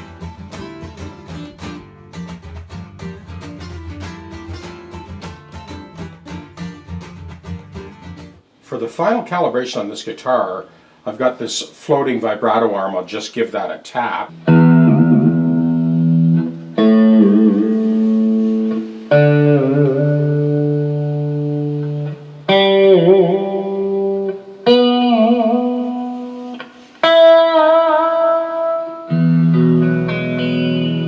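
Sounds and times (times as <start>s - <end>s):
electric guitar strummed chords: 0.0s - 8.4s, 14.2s - 31.0s.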